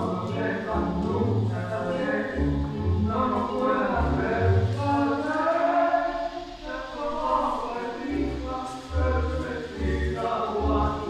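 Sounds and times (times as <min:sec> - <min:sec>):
person singing: 0:00.0 - 0:11.0.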